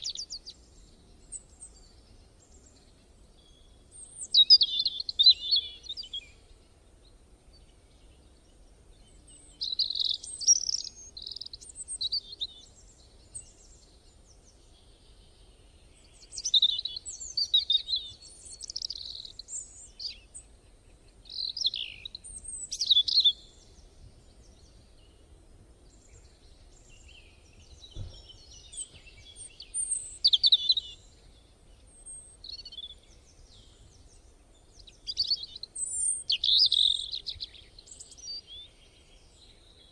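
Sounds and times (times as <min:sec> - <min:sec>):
birds chirping and calling: 0:00.0 - 0:06.7, 0:09.0 - 0:25.2, 0:25.9 - 0:39.9.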